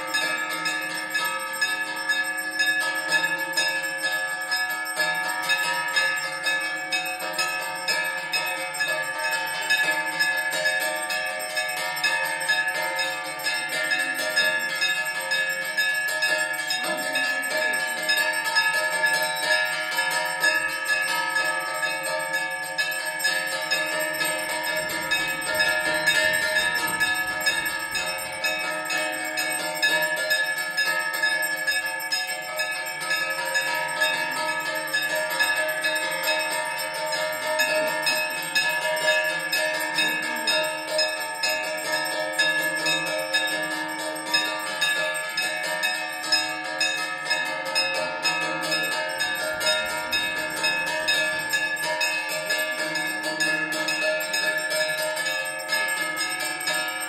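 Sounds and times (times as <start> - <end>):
temple bells ringing rapidly: 0.0 - 57.0.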